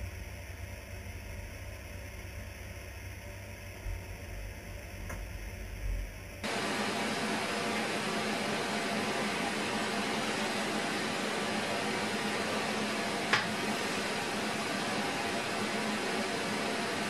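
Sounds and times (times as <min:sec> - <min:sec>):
machine whirring hum: 0:00.0 - 0:17.0.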